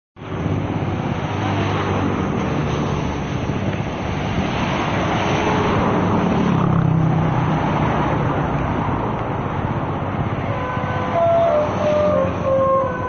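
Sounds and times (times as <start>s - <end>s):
road traffic noise: 0.2s - 13.0s
vehicle engine rumbling: 0.2s - 13.0s.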